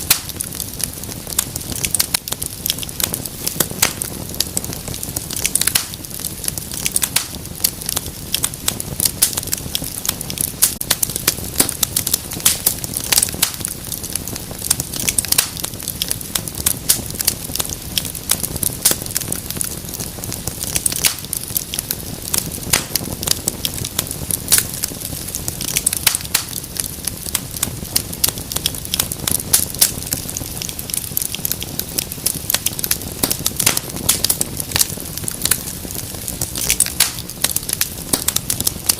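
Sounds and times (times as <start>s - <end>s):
wood fire crackling in fireplace: 0.0s - 38.9s.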